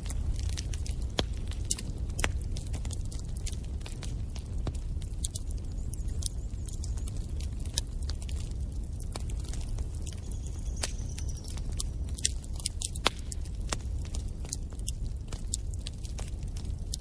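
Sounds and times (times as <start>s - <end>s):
low rumble of flames: 0.0s - 17.0s
sharp pops of fire: 0.0s - 17.0s
wood fire crackling: 0.0s - 17.0s.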